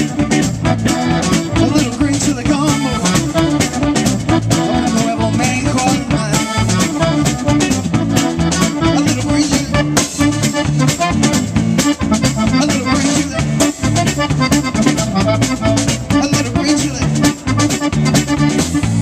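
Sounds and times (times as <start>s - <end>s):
live band playing instrumental: 0.0s - 19.0s.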